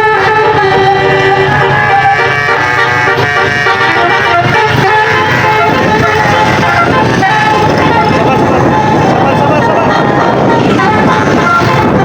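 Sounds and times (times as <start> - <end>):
bus horn playing a melody: 0.0 - 12.0.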